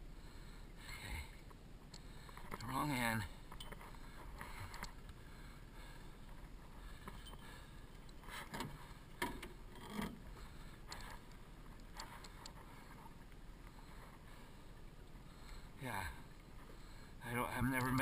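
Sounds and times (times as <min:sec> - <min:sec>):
faint steady background noise: 0:00.0 - 0:18.0.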